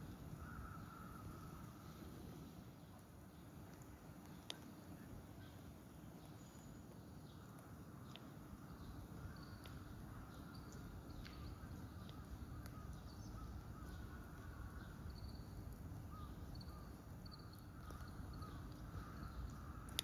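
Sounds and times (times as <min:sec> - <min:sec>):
distant bird calls: 0:00.0 - 0:03.0, 0:05.3 - 0:20.0.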